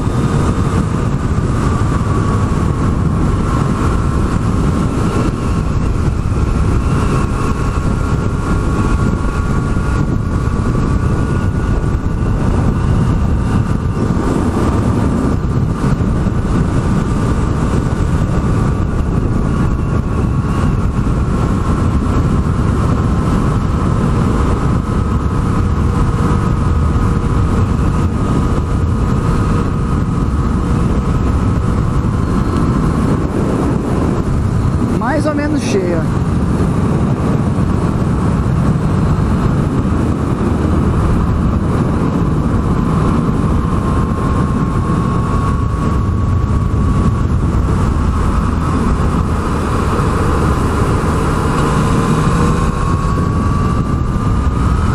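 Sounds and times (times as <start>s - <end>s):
motorcycle engine cruising: 0.0s - 54.9s
road rush: 0.0s - 54.9s
wind noise: 0.0s - 54.9s.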